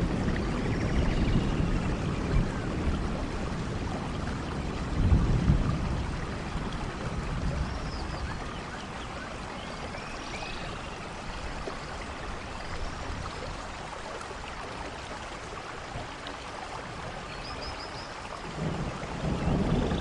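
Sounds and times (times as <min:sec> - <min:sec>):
rain falling in forest: 0:00.0 - 0:20.0.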